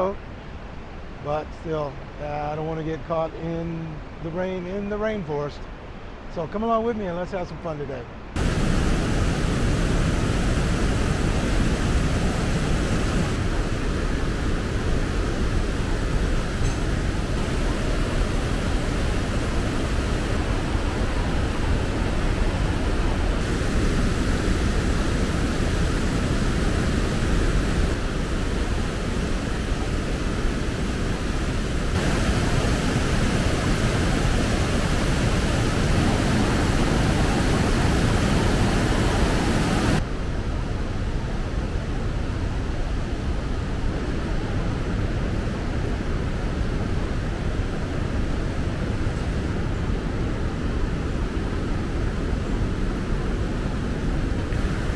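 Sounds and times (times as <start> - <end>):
river rushing over rapids: 8.2 - 54.9.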